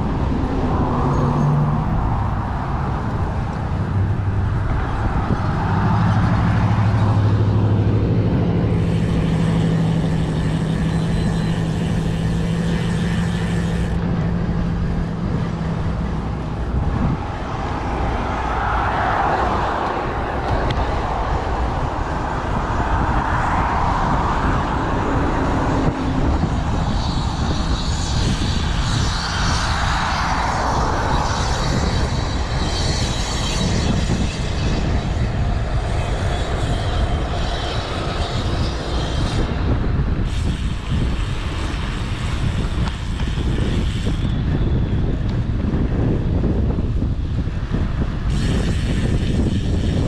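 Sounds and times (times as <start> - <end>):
road traffic passing: 0.0 - 50.0
wind rumbling on microphone: 0.0 - 50.0.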